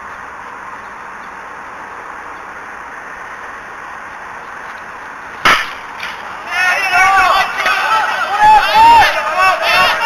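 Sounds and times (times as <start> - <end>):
steady outdoor background hiss: 0.0 - 10.0.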